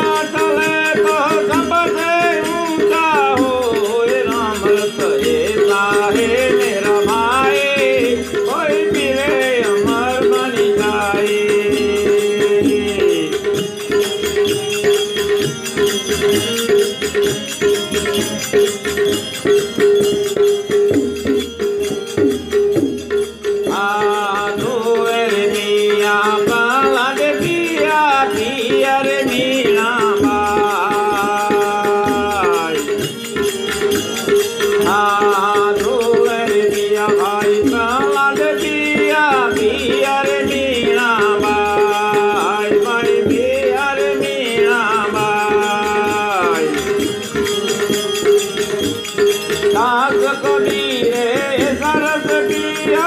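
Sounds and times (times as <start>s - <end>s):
rattling hand percussion: 0.0s - 53.0s
wavering devotional melody: 0.0s - 53.0s.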